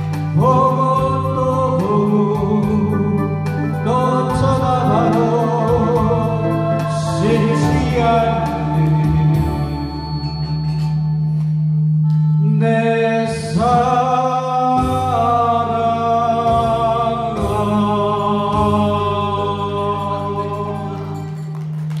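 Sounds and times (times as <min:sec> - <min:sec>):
backing music: 0:00.0 - 0:22.0
man singing into a microphone: 0:00.3 - 0:09.6, 0:12.4 - 0:21.3.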